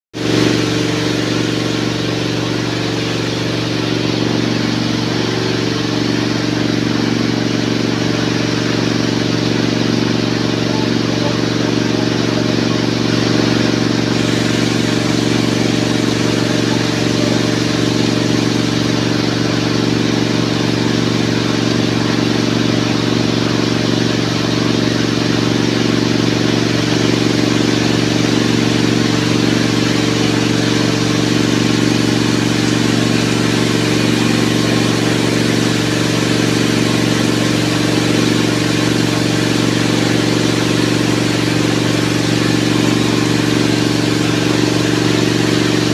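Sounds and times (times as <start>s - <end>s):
low drone: 0.2s - 45.9s.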